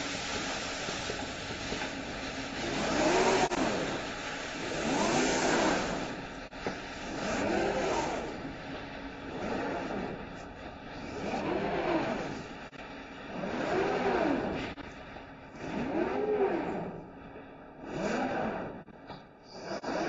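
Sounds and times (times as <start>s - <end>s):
steady machine noise: 0.0s - 20.0s.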